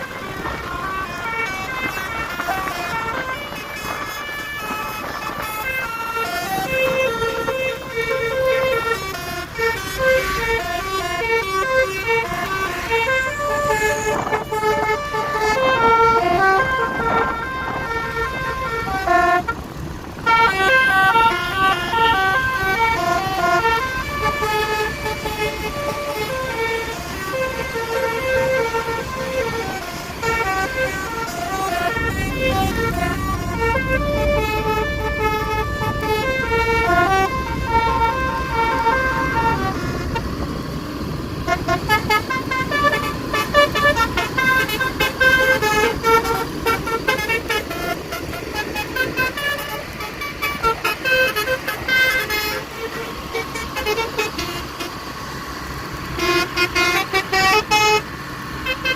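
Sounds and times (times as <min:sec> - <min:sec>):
musical horn playing a tune: 0:00.0 - 0:19.6, 0:20.2 - 0:40.3, 0:41.4 - 0:55.0, 0:56.2 - 0:58.0, 0:58.6 - 0:58.9
deep engine rumble: 0:00.0 - 0:58.8
road traffic: 0:00.0 - 0:58.9.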